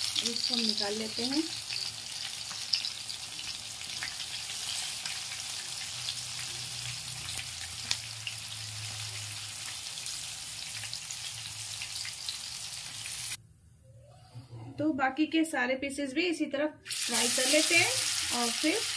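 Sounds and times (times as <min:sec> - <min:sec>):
fish frying in hot oil: 0:00.0 - 0:13.4, 0:16.9 - 0:18.9.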